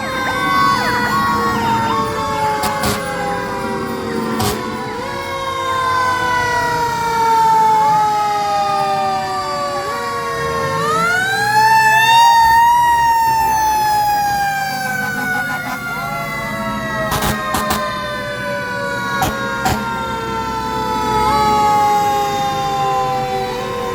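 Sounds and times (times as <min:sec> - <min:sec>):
fire truck sirens wailing: 0:00.0 - 0:23.9.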